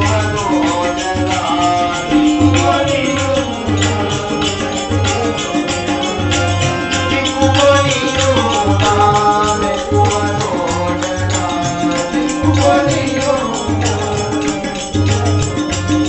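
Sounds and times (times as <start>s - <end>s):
harmonium chords: 0.0s - 16.0s
tabla: 0.0s - 16.0s
voices singing: 0.0s - 16.0s.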